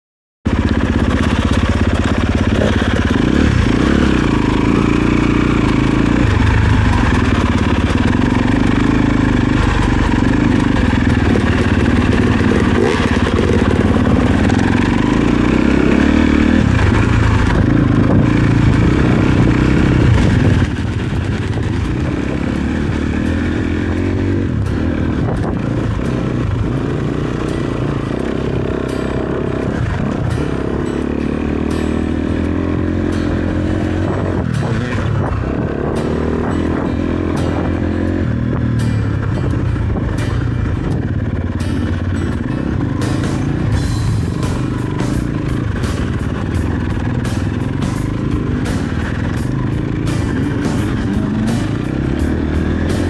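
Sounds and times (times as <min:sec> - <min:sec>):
dirt bike engine revving: 0:00.5 - 0:53.0.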